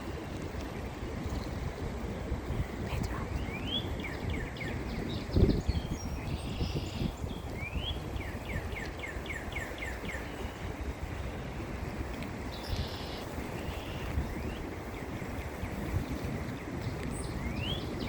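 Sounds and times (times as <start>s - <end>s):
wind rumble on microphone: 0.0s - 18.0s
songbird singing: 1.2s - 1.8s, 2.9s - 18.0s.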